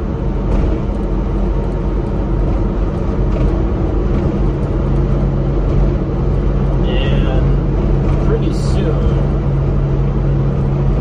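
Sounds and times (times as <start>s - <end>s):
engine running steadily: 0.0s - 11.0s
roar of tyres and wind: 0.0s - 11.0s.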